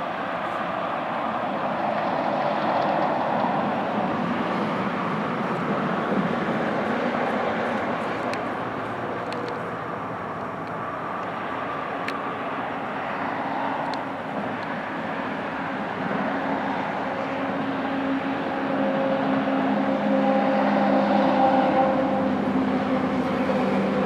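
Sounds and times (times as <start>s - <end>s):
engine noise: 0.0s - 24.0s.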